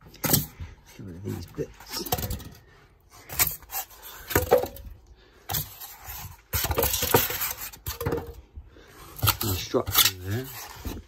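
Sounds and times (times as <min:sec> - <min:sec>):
packaging rustling and scraping: 0:00.0 - 0:04.9, 0:05.5 - 0:11.0.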